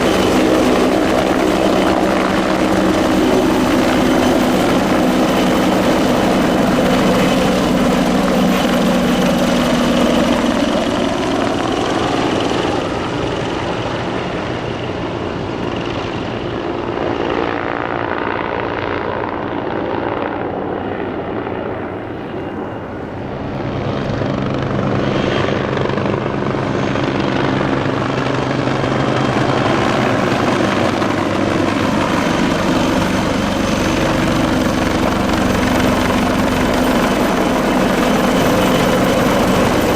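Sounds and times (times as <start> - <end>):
helicopter engine whine and rotor: 0.0 - 39.9.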